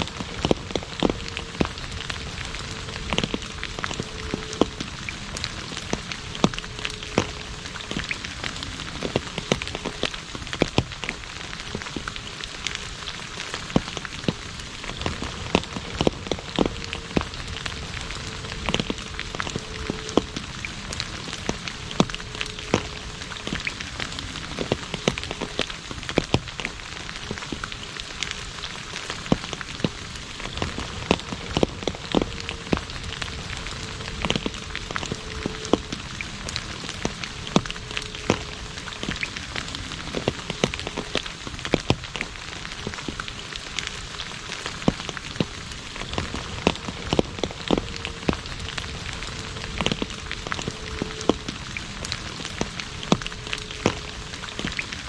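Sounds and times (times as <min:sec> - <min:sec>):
rain hissing on asphalt: 0:00.0 - 0:55.0
raindrop splats: 0:00.0 - 0:55.0.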